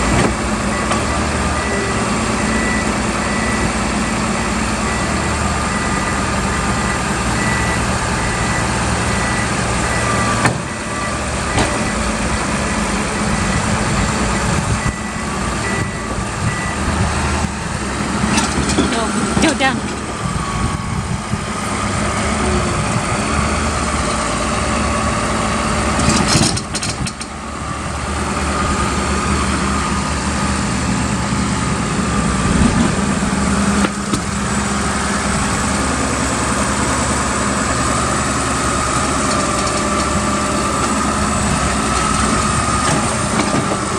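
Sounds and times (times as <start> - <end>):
diesel engine running with whine: 0.0 - 43.9.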